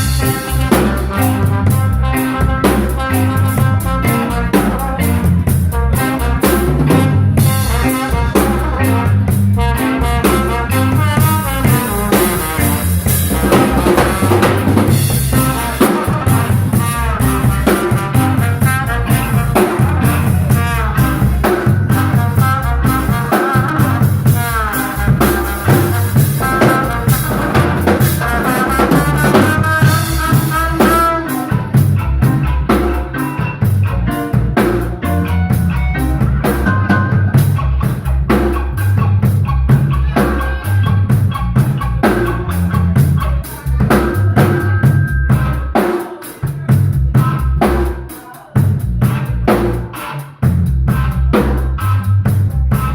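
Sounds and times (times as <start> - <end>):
lead melody: 0.0 - 48.1
bass line: 0.0 - 52.9
drum kit: 0.0 - 52.9.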